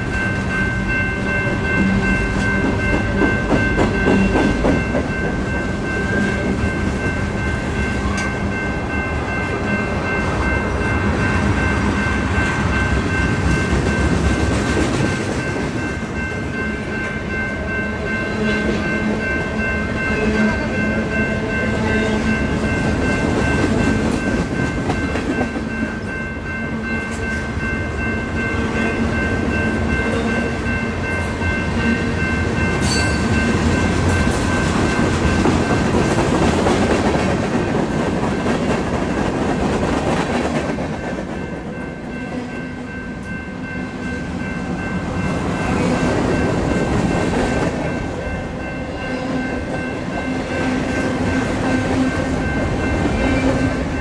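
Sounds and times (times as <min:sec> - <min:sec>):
high ringing tone: 0:00.0 - 0:14.4, 0:15.0 - 0:36.0, 0:41.3 - 0:54.0
freight train wheels rumbling: 0:00.0 - 0:54.0.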